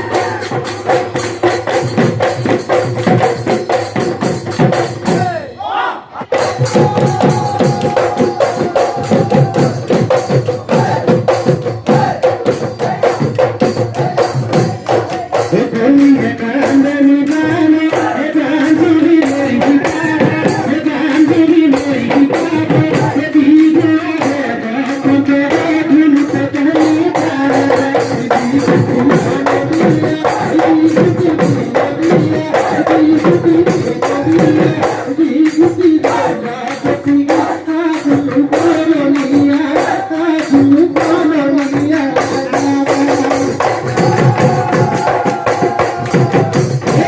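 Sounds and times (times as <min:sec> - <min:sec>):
drums and cymbals beating: 0:00.0 - 0:47.0.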